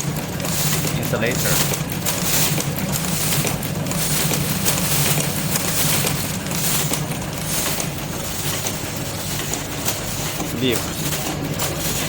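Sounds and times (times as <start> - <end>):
machine clattering with rapid clicks: 0.0 - 12.0
machine low hum: 0.0 - 12.0.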